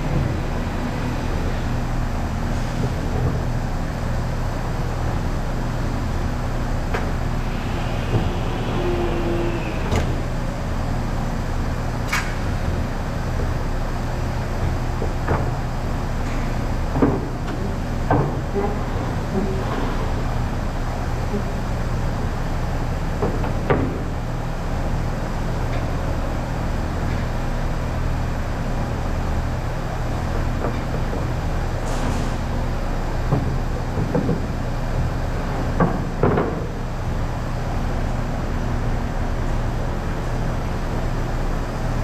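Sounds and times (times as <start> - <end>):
workshop machinery humming: 0.0 - 42.0.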